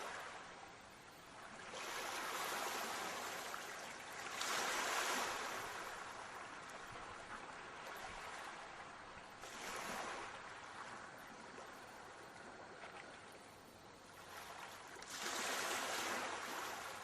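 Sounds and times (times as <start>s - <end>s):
sea waves washing onto shore: 1.6s - 13.2s, 14.1s - 17.0s.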